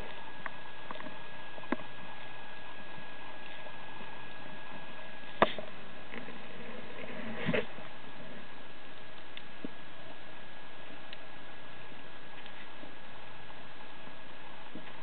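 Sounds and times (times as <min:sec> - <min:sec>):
faint steady tone: 0:00.0 - 0:15.0.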